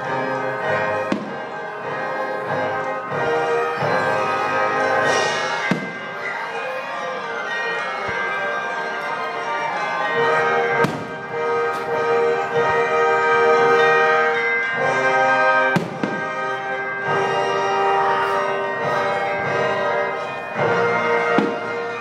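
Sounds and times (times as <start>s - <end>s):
orchestra playing: 0.0s - 22.0s.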